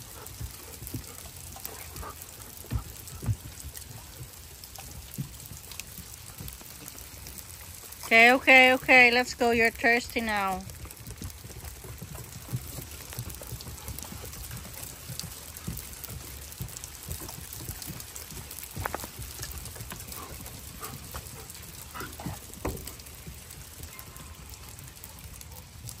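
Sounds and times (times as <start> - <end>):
hail hitting wooden deck: 0.0 - 26.0.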